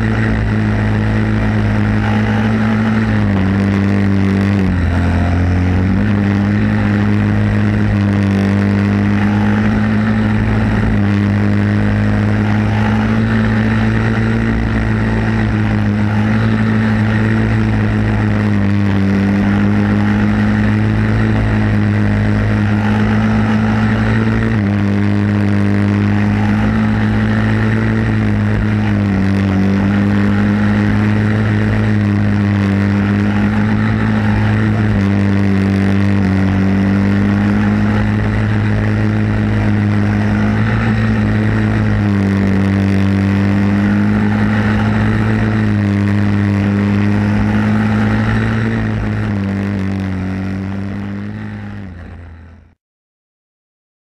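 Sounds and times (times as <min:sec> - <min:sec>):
kart engine running hard: 0:00.0 - 0:52.8.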